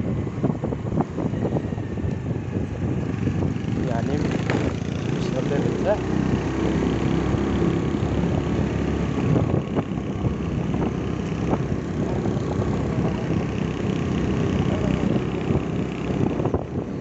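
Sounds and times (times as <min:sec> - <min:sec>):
motorbike engine running: 0:00.0 - 0:17.0
road and wind noise: 0:00.0 - 0:17.0.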